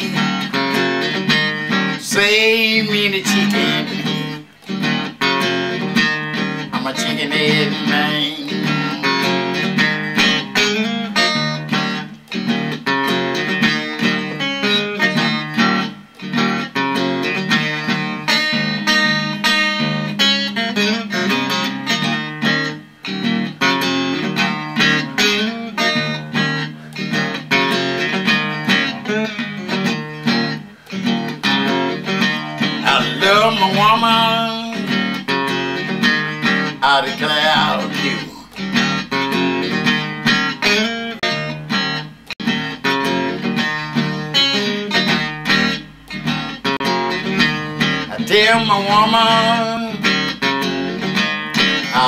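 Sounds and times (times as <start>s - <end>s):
electric guitar blues riff: 0.0s - 52.0s.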